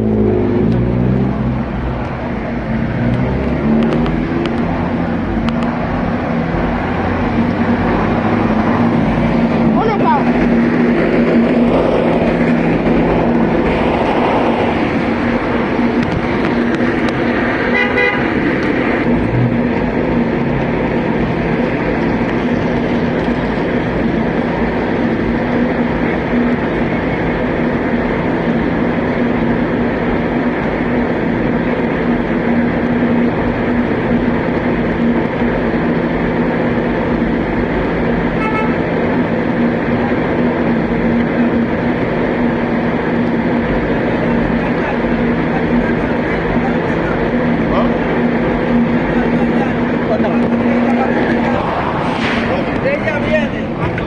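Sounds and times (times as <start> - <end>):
subway train rumbling: 0.0 - 54.0.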